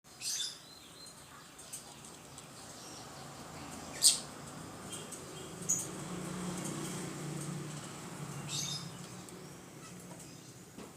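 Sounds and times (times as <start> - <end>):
birds chirping: 0.1 - 10.8.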